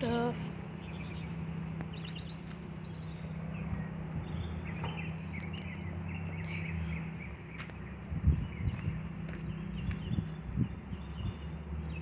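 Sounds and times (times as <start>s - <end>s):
low outdoor hum: 0.0s - 12.0s
small birds chirping: 0.0s - 12.0s.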